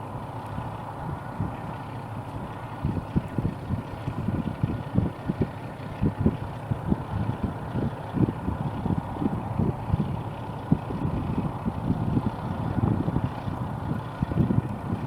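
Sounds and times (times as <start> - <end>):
wind buffeting microphone: 0.4 - 15.0.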